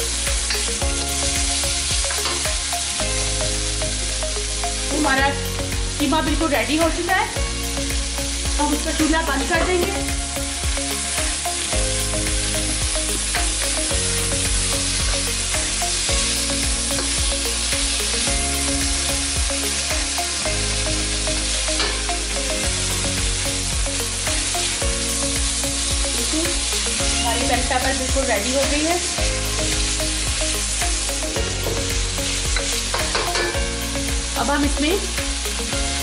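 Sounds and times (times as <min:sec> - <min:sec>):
peppers sizzling in a wok: 0:00.0 - 0:36.0.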